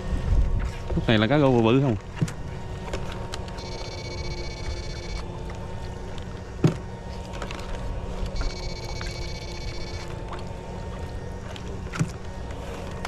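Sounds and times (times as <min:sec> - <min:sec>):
high electrical whine: 0:00.0 - 0:13.0
steady low rumble: 0:00.0 - 0:13.0.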